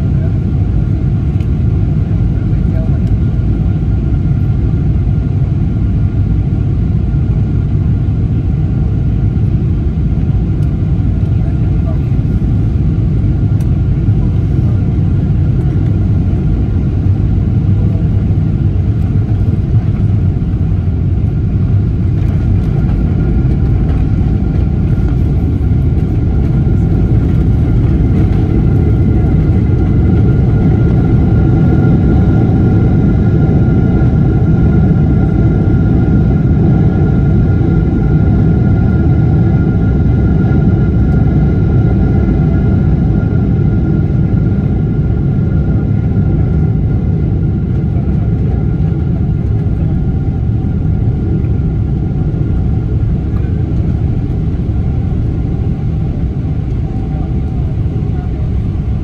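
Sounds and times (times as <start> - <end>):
airliner engines rumbling: 0.0 - 59.0.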